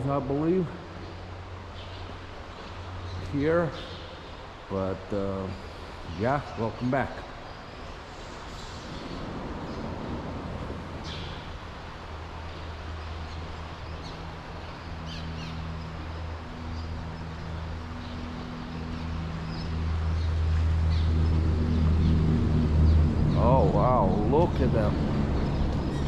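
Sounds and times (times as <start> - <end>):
low engine hum: 0.0 - 26.0
swallows chirping: 0.4 - 26.0.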